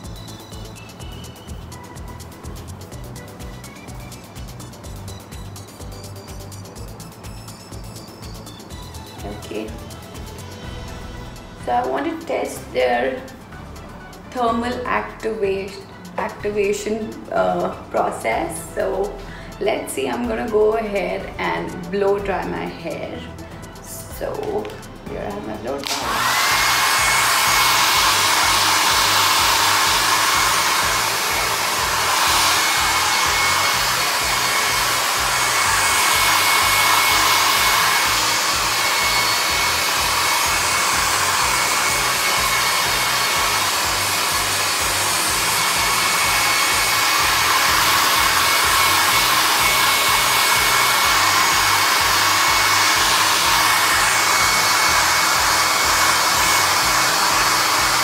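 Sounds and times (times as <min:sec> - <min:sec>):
blow dryer running: 0:00.0 - 0:58.0.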